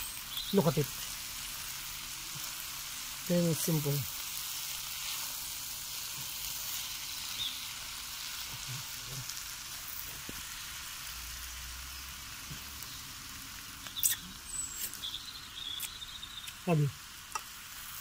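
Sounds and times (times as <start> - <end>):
noodles sizzling in a frying pan: 0.0 - 18.0.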